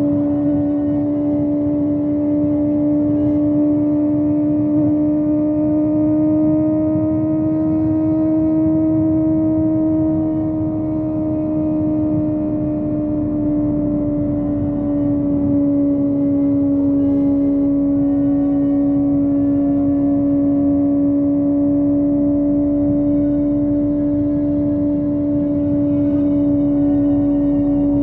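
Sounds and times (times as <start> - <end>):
motorcycle engine at high revs: 0.0 - 28.0
road rumble: 0.0 - 28.0
wind: 0.0 - 28.0.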